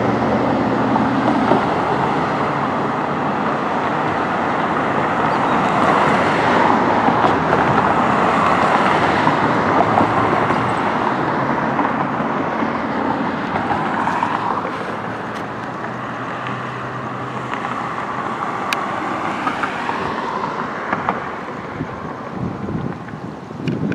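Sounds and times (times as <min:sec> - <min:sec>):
motor vehicle passing: 0:00.0 - 0:23.2
road traffic noise: 0:00.0 - 0:23.9.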